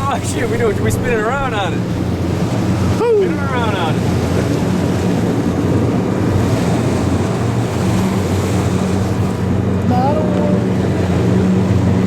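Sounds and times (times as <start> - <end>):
boat engine hum: 0.0 - 12.0
water noise: 0.0 - 12.0
wind buffeting microphone: 0.0 - 12.0.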